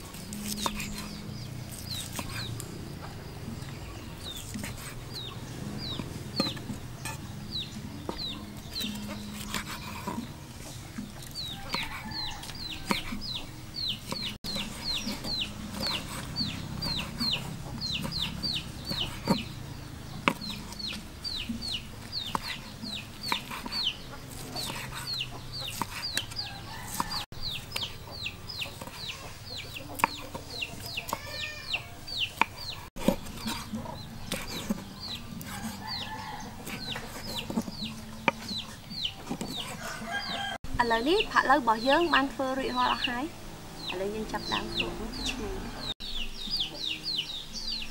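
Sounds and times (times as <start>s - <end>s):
chickens peeping: 0.0s - 47.9s.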